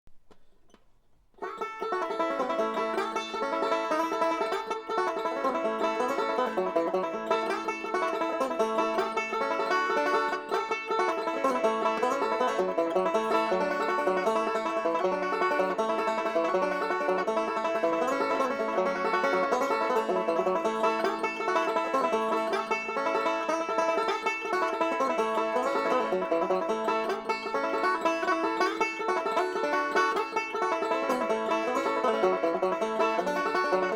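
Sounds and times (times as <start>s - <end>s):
banjo picking: 0.3s - 33.9s.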